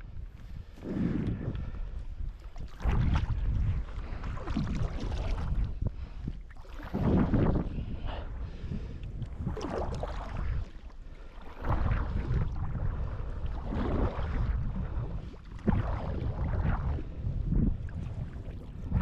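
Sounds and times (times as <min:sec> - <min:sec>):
wind on microphone: 0:00.0 - 0:19.0
water sloshing against kayak: 0:00.1 - 0:19.0.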